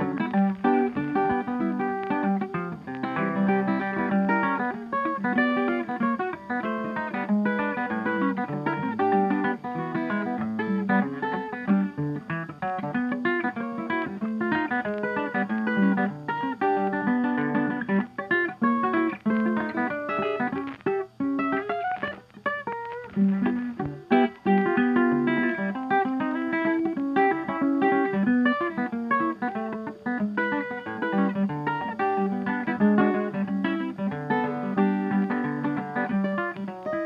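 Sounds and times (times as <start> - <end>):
plucked guitar run: 0.0 - 37.0.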